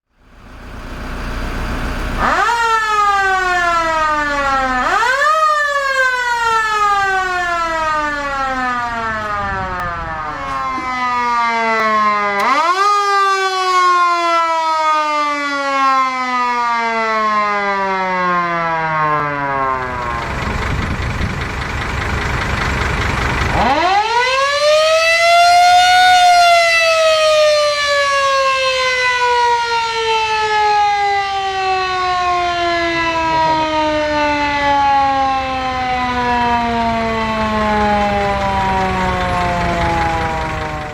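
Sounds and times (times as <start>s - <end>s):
mechanical sirens wailing: 0.2s - 40.9s.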